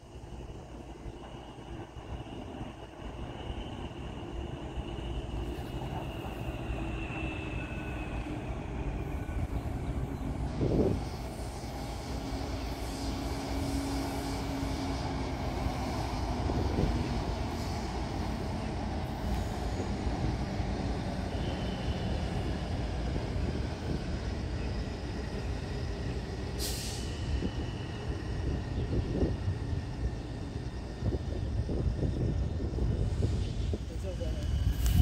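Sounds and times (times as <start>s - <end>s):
train wheels on rails: 0.1s - 35.0s.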